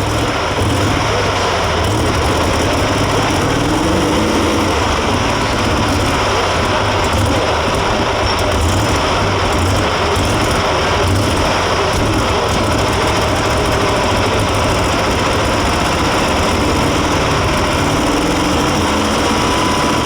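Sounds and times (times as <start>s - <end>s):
tractor diesel engine at full power: 0.0s - 20.0s.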